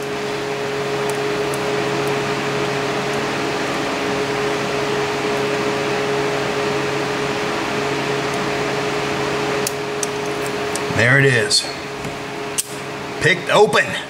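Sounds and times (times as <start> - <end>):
fan humming and hissing: 0.0 - 14.0.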